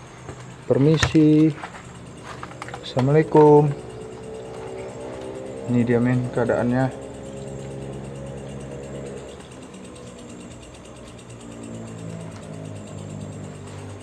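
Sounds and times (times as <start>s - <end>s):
low drone music: 1.6s - 14.0s.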